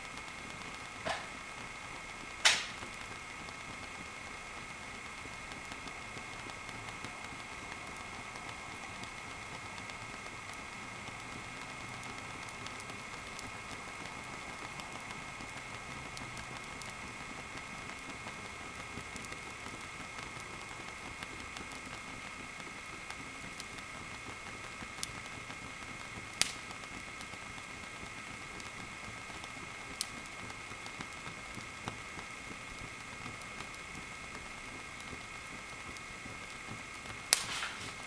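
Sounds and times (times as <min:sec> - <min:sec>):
burning wood crackling: 0:00.0 - 0:38.0
fire hissing: 0:00.0 - 0:38.0.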